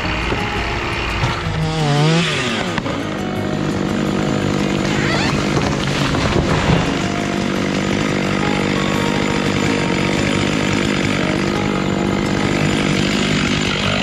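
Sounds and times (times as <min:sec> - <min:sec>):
chainsaw running: 0:00.0 - 0:14.0.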